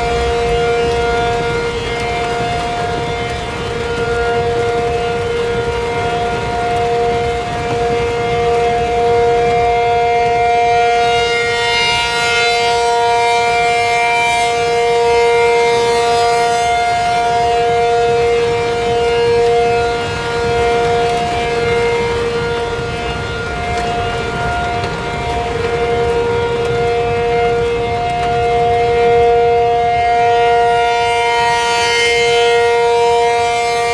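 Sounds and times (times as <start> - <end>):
outdoor warning siren steady chord: 0.0 - 33.9.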